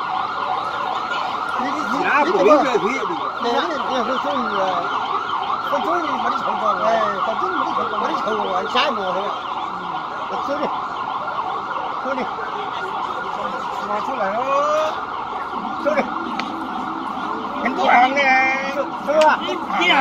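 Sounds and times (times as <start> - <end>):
faint voices: 0.0 - 20.0
warbling siren wail: 0.0 - 20.0.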